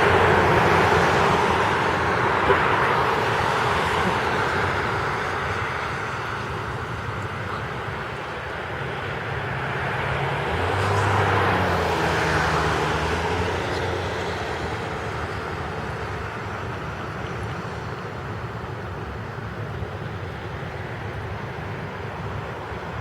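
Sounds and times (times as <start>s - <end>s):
vehicle passing on wet road: 0.0s - 23.0s.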